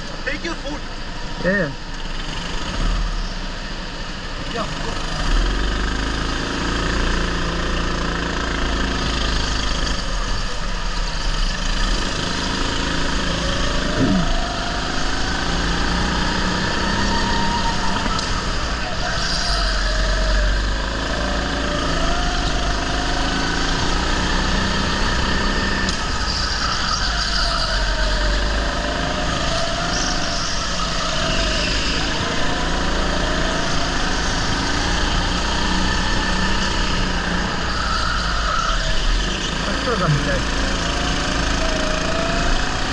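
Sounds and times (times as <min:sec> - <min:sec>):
go-kart motor revving: 0:00.0 - 0:42.9.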